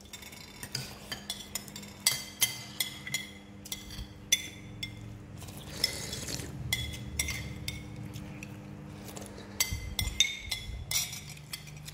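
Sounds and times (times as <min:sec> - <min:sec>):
spoons clinking on ceramic bowls: 0:00.0 - 0:06.1, 0:06.7 - 0:08.5, 0:09.1 - 0:11.9.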